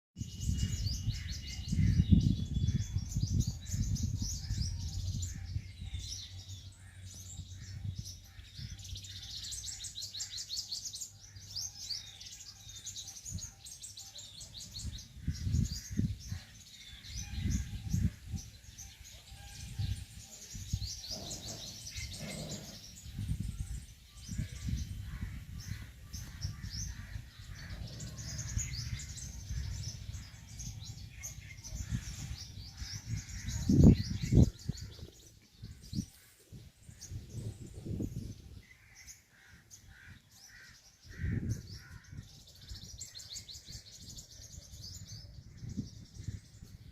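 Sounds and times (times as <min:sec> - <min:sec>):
small birds chirping: 0:00.2 - 0:46.9.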